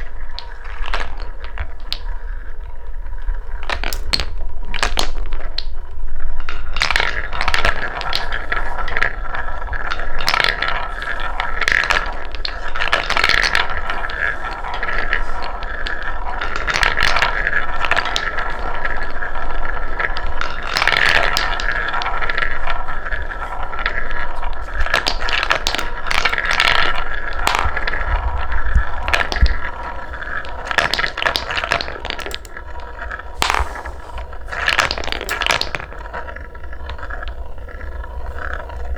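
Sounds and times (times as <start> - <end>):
balls clacking on wood: 0.0 - 38.9
wooden balls rolling on track: 0.0 - 38.9.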